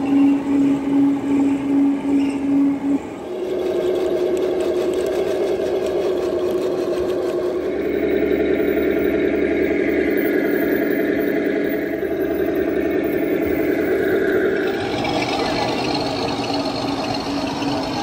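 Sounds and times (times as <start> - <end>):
electric motors whining: 0.0 - 18.0
electronic engine drone: 0.0 - 18.0.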